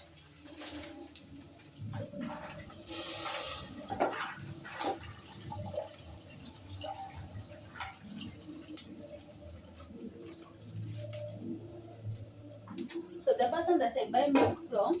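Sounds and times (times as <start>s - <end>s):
milk pouring into pot: 0.1s - 12.9s
liquid splashes: 0.1s - 13.2s.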